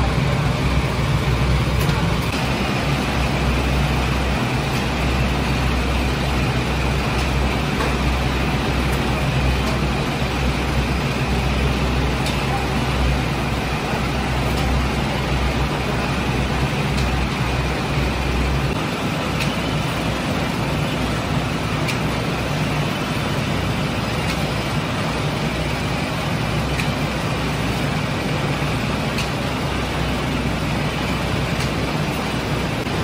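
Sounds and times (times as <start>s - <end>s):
bread oven rumble and hum: 0.0s - 33.0s.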